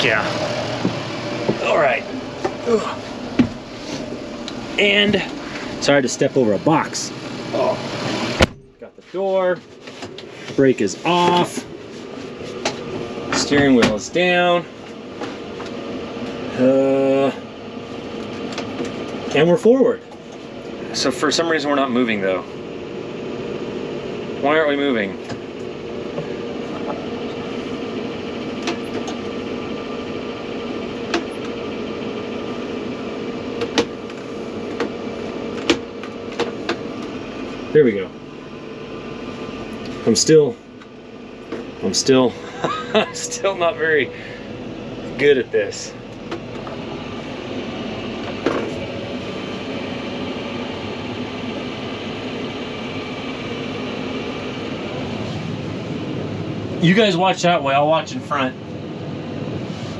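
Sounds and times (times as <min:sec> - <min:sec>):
tractor engine idling: 0:00.0 - 0:57.4
blower hum: 0:00.0 - 0:59.9.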